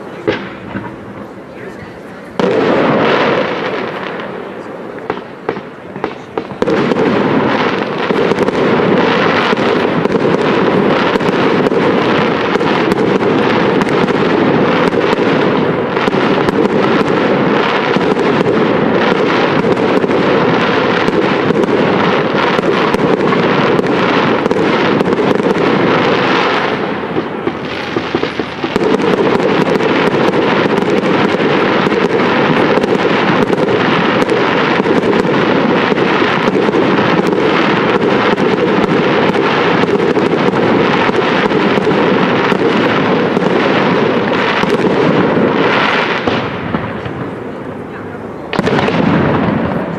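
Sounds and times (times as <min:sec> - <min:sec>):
fireworks bursting and crackling: 0:00.0 - 0:49.9.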